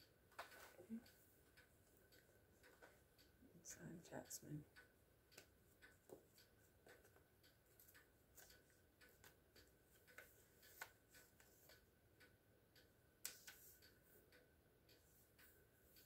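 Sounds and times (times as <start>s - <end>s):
light ticks: 0.0s - 16.0s.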